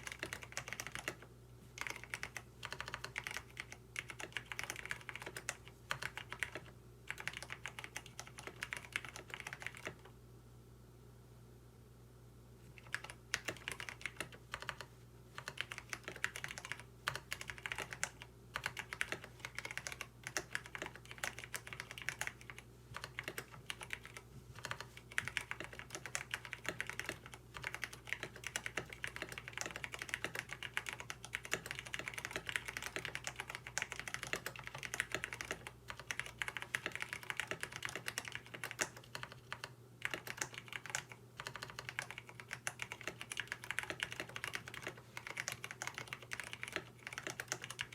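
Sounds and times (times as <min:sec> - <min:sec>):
mechanical keyboard typing: 0:00.0 - 0:10.1, 0:12.8 - 0:47.9.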